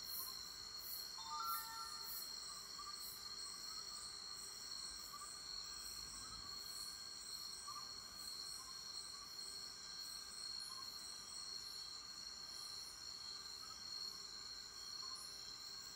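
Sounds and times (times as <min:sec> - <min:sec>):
crickets trilling: 0:00.0 - 0:15.9.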